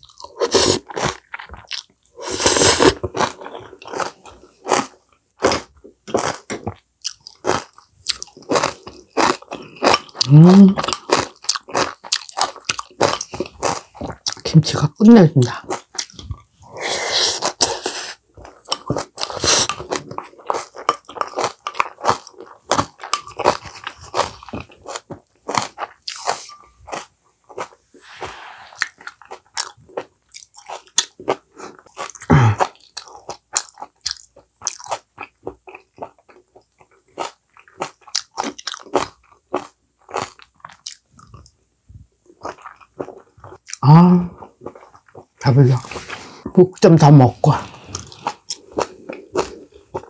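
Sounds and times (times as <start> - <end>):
person chewing crunchy food: 0.0 - 14.6, 15.4 - 41.6, 42.2 - 50.0.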